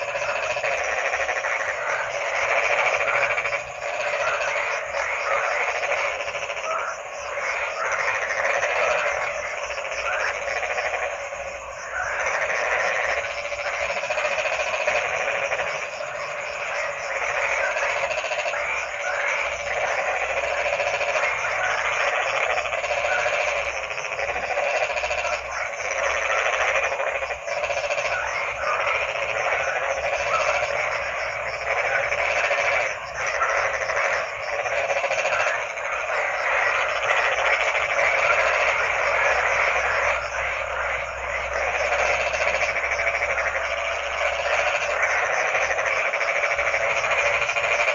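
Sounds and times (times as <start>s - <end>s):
chorus of frogs croaking: 0.0s - 47.9s.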